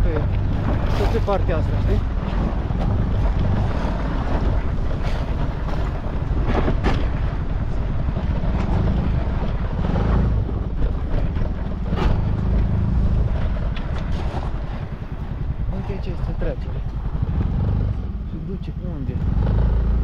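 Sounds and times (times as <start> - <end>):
scooter engine and road rumble: 0.0 - 20.0
wind buffeting microphone: 0.0 - 20.0.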